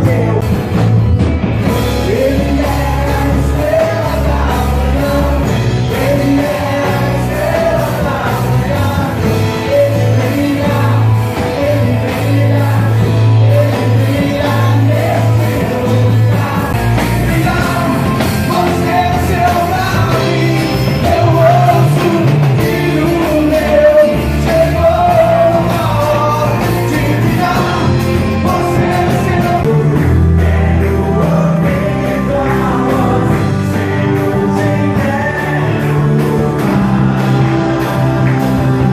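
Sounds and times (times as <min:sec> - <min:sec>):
worship song with full band: 0:00.0 - 0:38.9.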